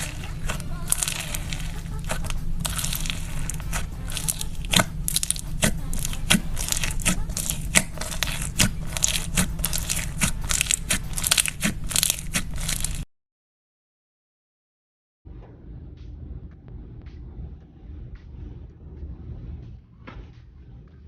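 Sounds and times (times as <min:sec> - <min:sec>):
steady low hum: 0:00.0 - 0:13.0, 0:15.3 - 0:21.0.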